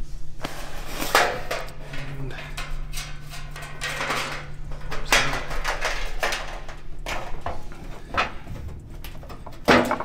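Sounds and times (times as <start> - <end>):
metal scrapes and clunks: 0.4 - 10.0.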